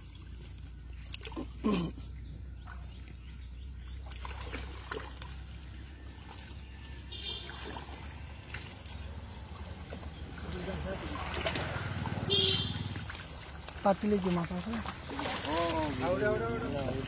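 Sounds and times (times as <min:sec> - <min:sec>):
hands stirring muddy water: 0:00.0 - 0:17.0
water splashing and trickling: 0:00.0 - 0:17.0.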